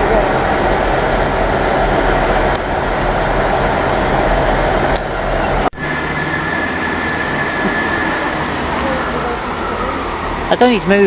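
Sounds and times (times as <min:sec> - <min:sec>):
steady high-pitched tone: 0:00.0 - 0:11.0
train engines humming: 0:00.0 - 0:11.0.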